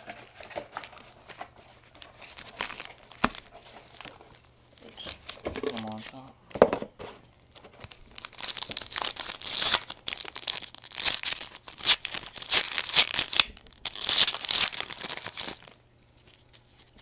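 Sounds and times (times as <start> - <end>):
wrapper tearing and crinkling: 0.0 - 6.2, 7.8 - 17.0.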